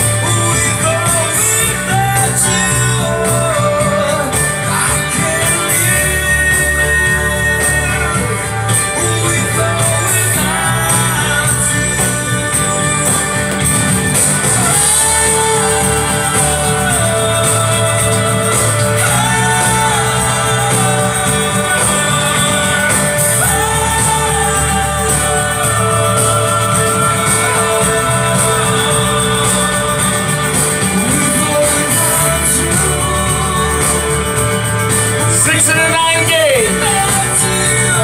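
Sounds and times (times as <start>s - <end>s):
band with guitar: 0.0s - 38.0s.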